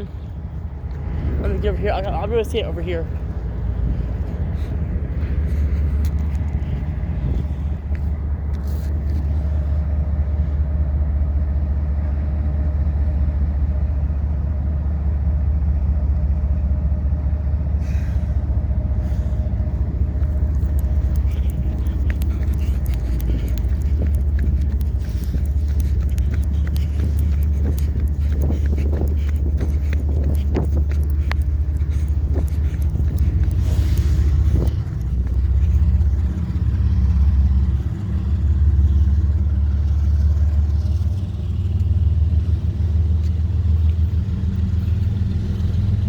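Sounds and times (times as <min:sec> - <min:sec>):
low vehicle engine rumble: 0:00.0 - 0:46.0.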